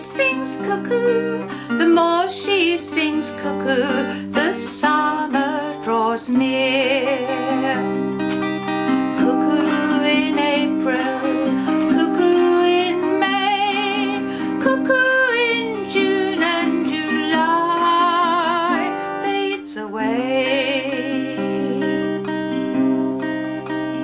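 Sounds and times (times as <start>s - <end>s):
acoustic guitar: 0.0s - 24.0s
woman singing folk song: 0.0s - 24.0s.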